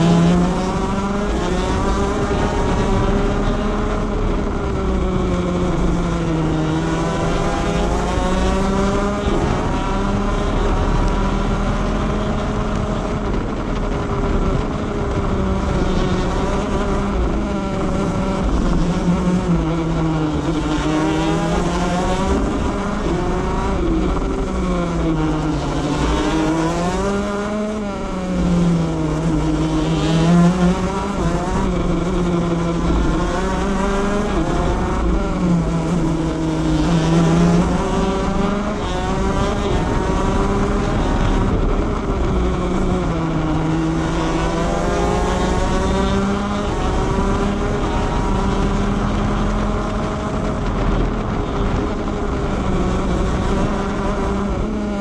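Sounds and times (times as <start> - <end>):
kart engine racing: 0.0 - 55.0
wind rush on microphone: 0.0 - 55.0.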